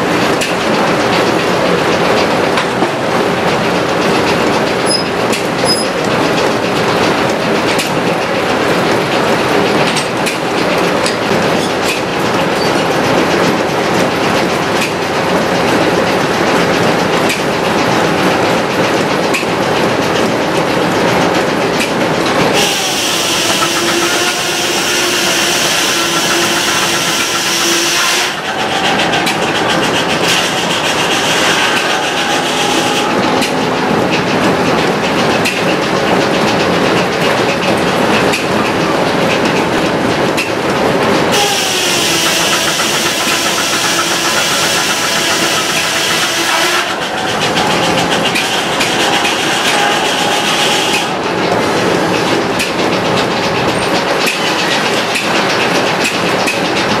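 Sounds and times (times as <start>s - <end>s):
sawmill mechanical clatter: 0.0s - 57.0s.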